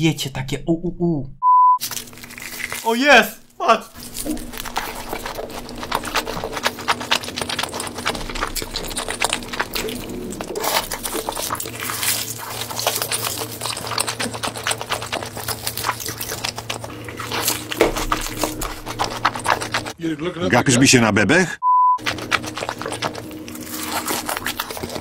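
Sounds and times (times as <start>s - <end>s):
person chewing crunchy food: 1.8s - 20.0s, 22.0s - 25.0s.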